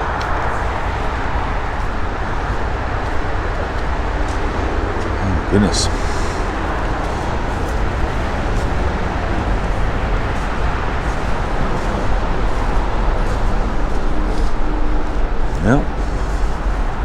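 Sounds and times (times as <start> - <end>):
loud outdoor rumble: 0.0 - 17.0.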